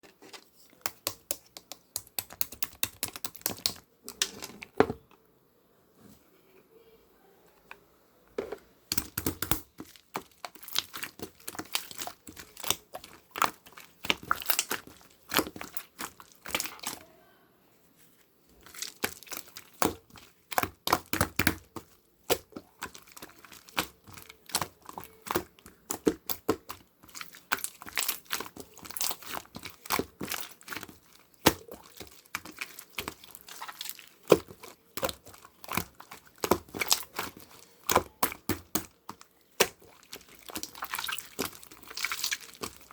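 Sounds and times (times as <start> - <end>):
slime crackling and popping: 0.8 - 4.4, 8.9 - 17.0, 18.6 - 42.9.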